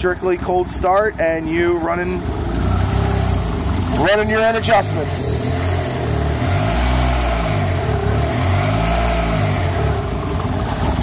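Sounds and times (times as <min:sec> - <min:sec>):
car engine revving unevenly: 0:01.8 - 0:11.0.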